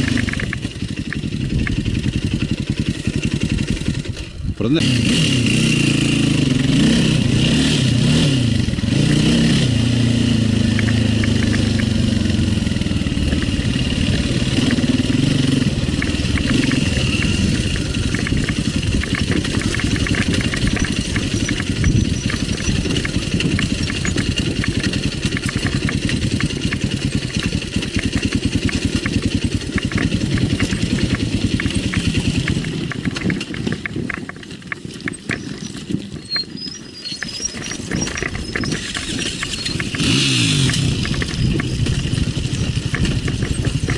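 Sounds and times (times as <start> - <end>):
dirt bike engine revving: 0.0 - 34.2, 35.3 - 43.9.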